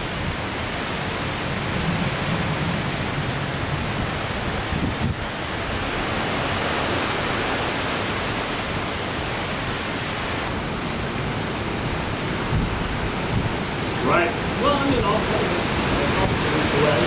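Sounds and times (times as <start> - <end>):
strong wind rushing through trees: 0.0 - 17.0
wind buffeting microphone: 0.0 - 17.0.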